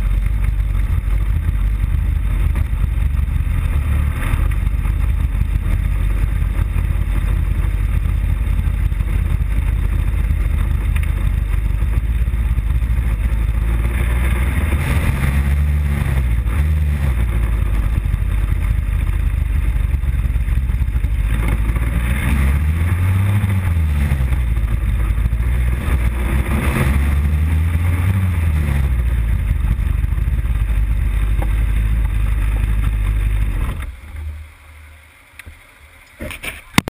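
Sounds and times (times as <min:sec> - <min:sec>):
motorcycle engine revving: 0:00.0 - 0:34.5.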